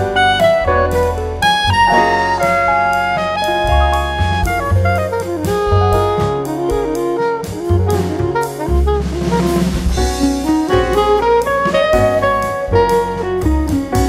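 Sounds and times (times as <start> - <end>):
bass line: 0.0 - 14.0
melody of held notes: 0.0 - 14.0
steady drum beat: 0.0 - 14.0.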